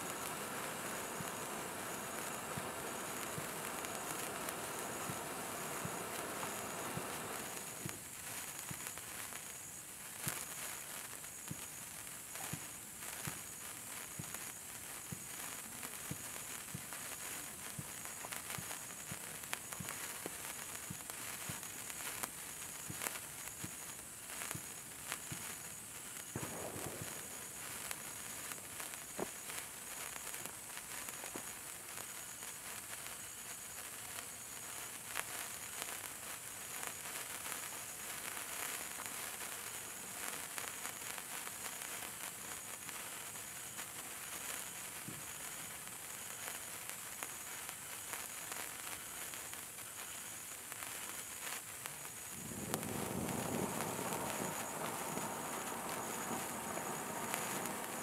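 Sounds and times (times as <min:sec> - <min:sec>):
sparkler fizzing and crackling: 0:00.0 - 0:58.0.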